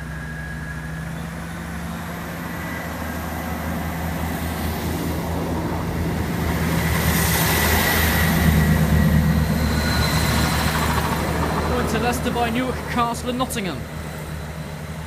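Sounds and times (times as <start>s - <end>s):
diesel engines droning: 0.0s - 15.0s
train rumble: 0.0s - 15.0s.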